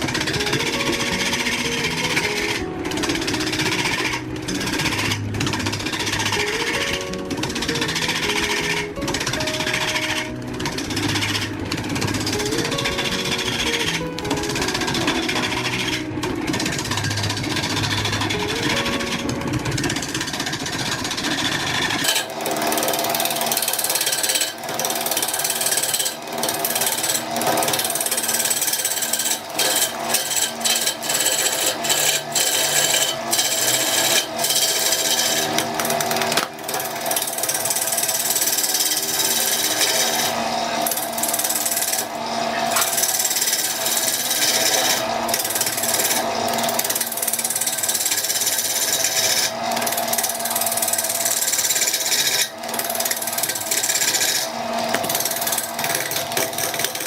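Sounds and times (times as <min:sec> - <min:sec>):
power tool cutting wood: 0:00.0 - 0:57.0.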